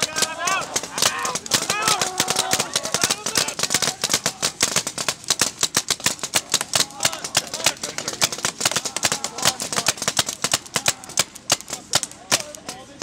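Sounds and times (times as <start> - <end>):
people calling out: 0.0 - 5.1, 6.1 - 13.0
paintball guns firing: 0.0 - 13.0.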